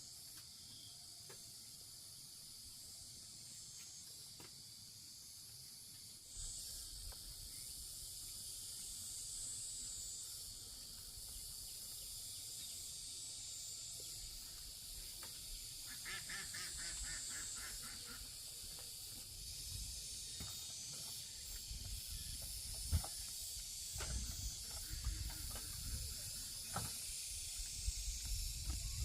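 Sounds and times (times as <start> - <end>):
high insect chirring: 0.0 - 29.0
rapid pulsed insect calls: 0.0 - 29.0.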